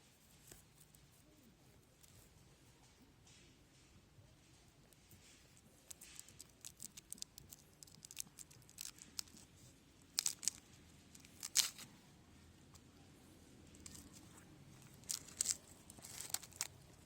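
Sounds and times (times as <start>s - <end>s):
crinkling and rustling: 0.0s - 12.9s, 13.6s - 17.0s.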